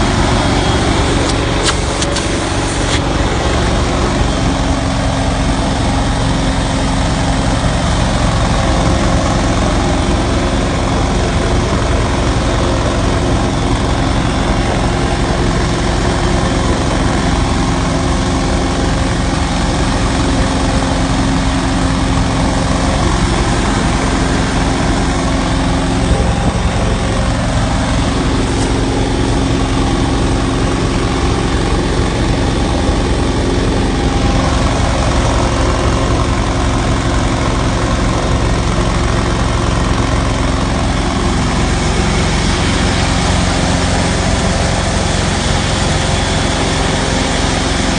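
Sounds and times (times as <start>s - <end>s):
engine driving vacuum blower: 0.0s - 47.9s.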